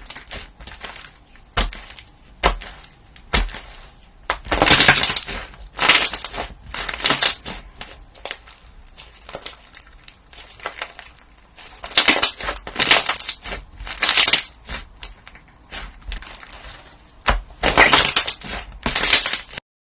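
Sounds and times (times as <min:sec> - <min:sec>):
crunchy material crushed by hand: 0:00.0 - 0:19.6.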